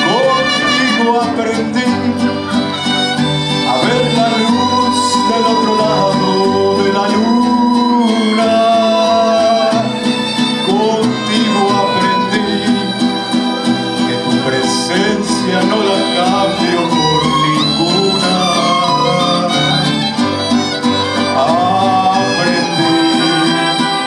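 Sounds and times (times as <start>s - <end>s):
man singing: 0.0s - 24.0s
mariachi band playing: 0.0s - 24.0s.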